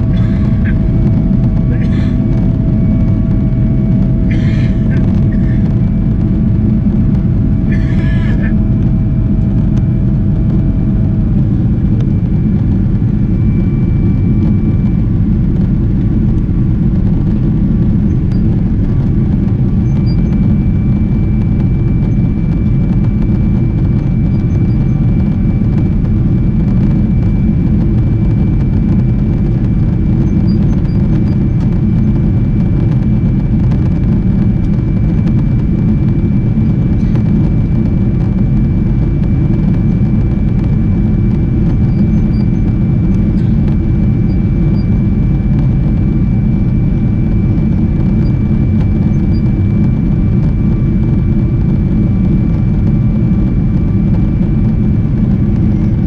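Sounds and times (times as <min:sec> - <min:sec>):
faint high whine: 0:00.0 - 0:56.0
jet engines rumbling: 0:00.0 - 0:56.0.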